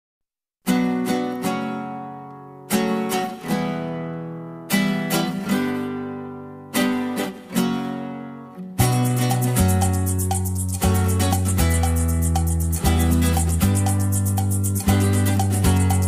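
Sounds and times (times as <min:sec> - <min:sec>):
acoustic guitar strumming: 0:00.7 - 0:16.0.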